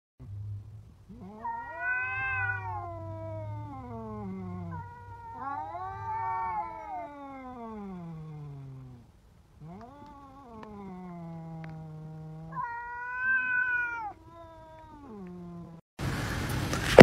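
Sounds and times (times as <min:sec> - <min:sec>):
cat meowing: 0:01.1 - 0:09.0, 0:09.6 - 0:15.8.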